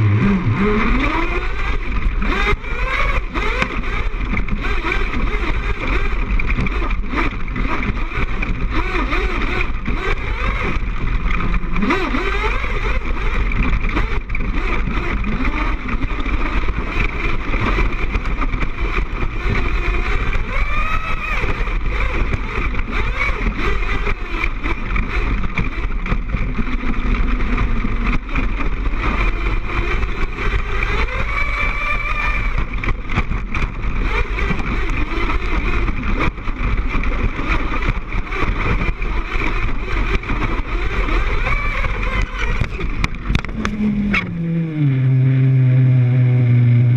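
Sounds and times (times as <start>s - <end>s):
knocks and rattles: 0.0s - 44.0s
small two-stroke engine revving: 0.0s - 46.9s.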